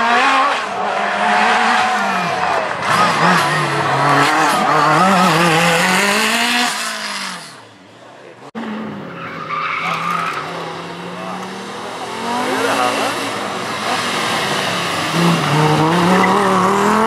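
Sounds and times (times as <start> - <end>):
rally car engine revving: 0.0 - 17.0
tyres skidding: 0.0 - 17.0.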